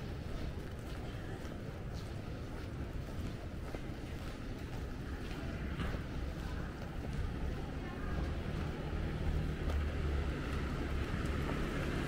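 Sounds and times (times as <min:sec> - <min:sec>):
street ambience low rumble: 0:00.0 - 0:12.0.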